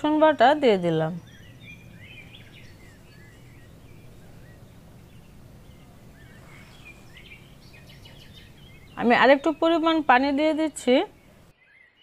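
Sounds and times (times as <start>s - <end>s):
low steady hum: 0.0s - 11.5s
faint bird chirps: 0.4s - 12.0s.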